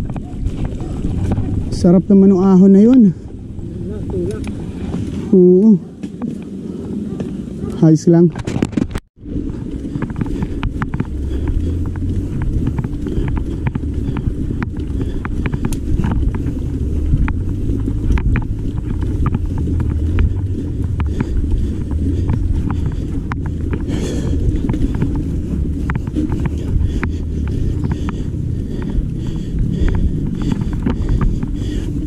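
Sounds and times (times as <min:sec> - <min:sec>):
bike clicks and rattles: 0:00.0 - 0:32.0
wind rumbling on microphone: 0:00.0 - 0:32.0.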